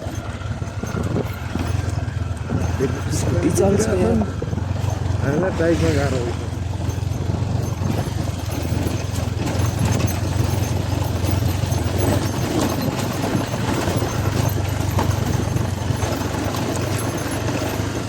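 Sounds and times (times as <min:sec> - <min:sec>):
bike rattling over bumps: 0:00.0 - 0:18.0
motorcycle engine drone: 0:00.0 - 0:18.0.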